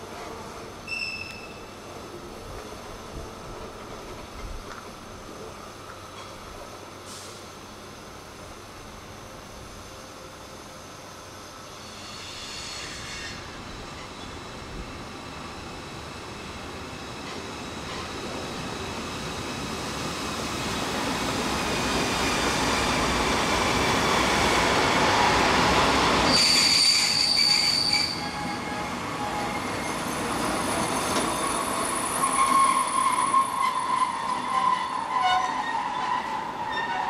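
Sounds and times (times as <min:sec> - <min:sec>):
train passing: 0:00.0 - 0:37.0
train wheels squealing on rails: 0:00.8 - 0:01.9, 0:05.9 - 0:07.6, 0:09.8 - 0:37.0.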